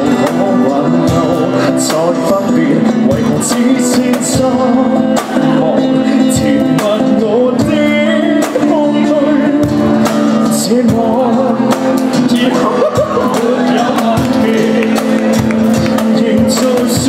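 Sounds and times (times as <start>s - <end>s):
man singing into a microphone: 0.0s - 17.0s
percussion: 0.0s - 17.0s
strummed acoustic guitar: 0.0s - 17.0s.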